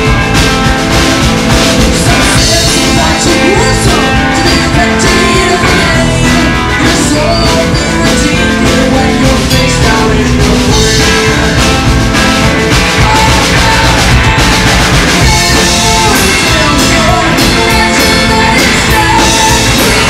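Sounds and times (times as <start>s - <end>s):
drum kit: 0.0s - 20.0s
electric guitars: 0.0s - 20.0s
upright bass: 0.0s - 20.0s.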